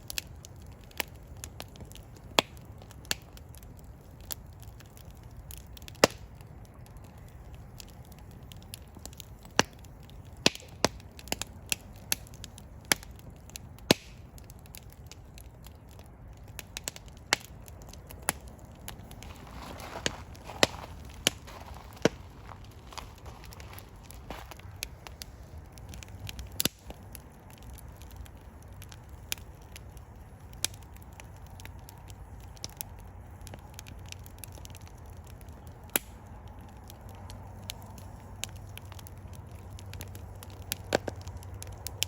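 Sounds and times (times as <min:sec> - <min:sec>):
burning logs popping and snapping: 0:00.0 - 0:42.0
flames rumbling: 0:00.0 - 0:42.0.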